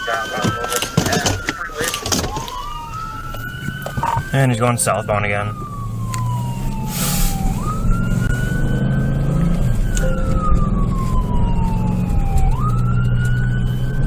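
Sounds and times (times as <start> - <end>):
moving car drone: 0.0 - 14.0
police siren wailing: 0.0 - 14.0.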